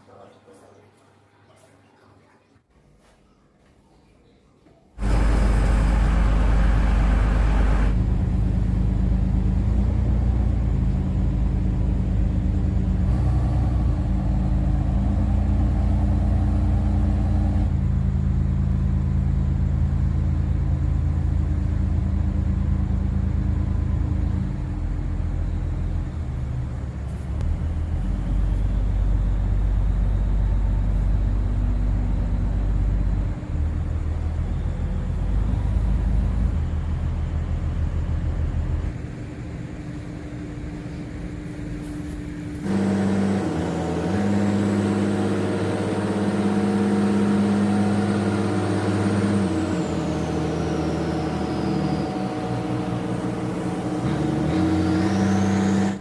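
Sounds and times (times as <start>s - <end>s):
boat engine droning: 5.0s - 56.0s.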